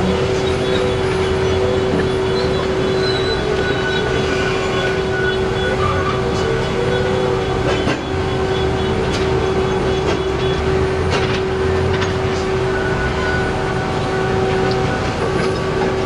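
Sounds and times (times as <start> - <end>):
heavy machinery engine drone: 0.0 - 16.0
high whine: 0.0 - 16.0.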